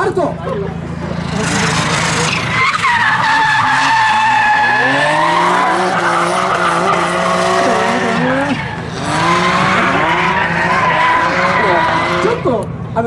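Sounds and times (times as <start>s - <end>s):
tyres screeching: 1.0s - 12.6s
small engine revving: 1.0s - 12.7s.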